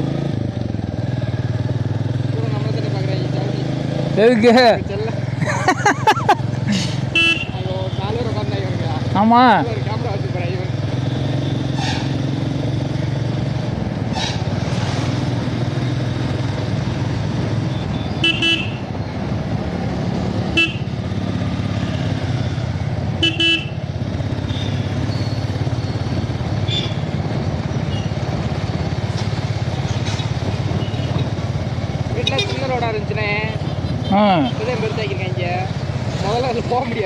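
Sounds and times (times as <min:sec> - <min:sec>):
motorcycle engine riding: 0:00.0 - 0:37.0.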